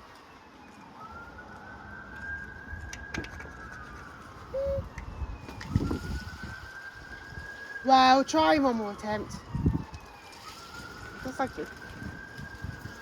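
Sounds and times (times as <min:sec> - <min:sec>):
siren wailing: 0:00.2 - 0:13.0.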